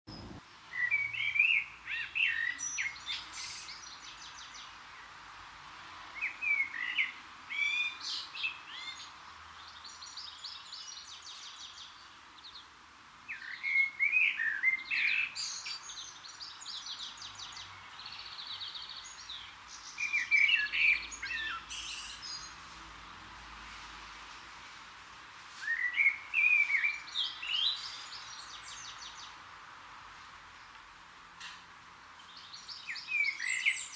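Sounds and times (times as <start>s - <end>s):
songbird singing: 0.1s - 5.3s, 6.0s - 22.8s, 25.5s - 33.9s
faint outdoor background noise: 0.1s - 33.9s.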